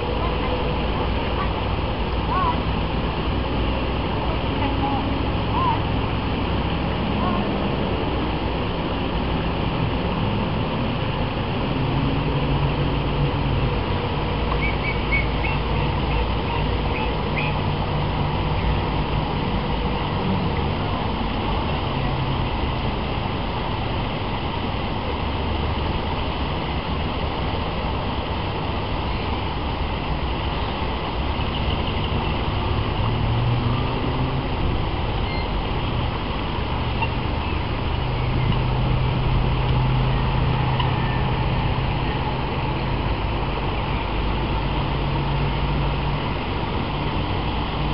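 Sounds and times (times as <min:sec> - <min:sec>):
low outdoor rumble with hiss: 0:00.0 - 0:47.9.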